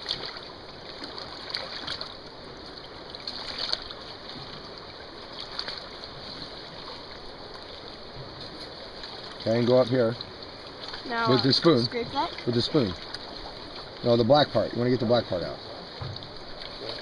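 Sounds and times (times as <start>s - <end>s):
shallow creek rushing: 0.0s - 17.0s.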